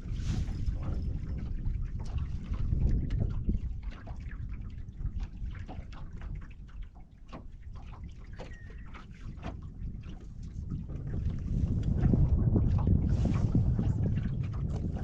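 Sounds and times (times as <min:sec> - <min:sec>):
waves slapping boat hull: 0:00.0 - 0:15.0
wind rumble on microphone: 0:00.0 - 0:15.0.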